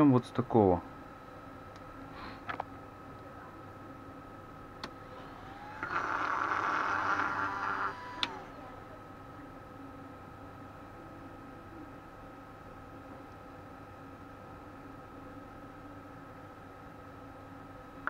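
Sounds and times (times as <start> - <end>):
cooling fan whirring: 0.0 - 18.0.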